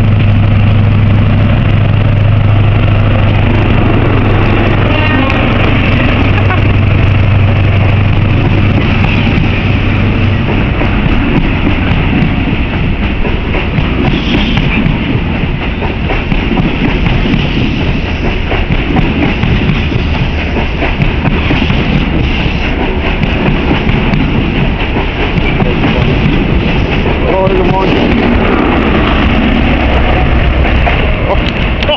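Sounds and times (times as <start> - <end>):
low train engine hum: 0.0 - 31.9
train coaches rumbling on rails: 0.0 - 31.9.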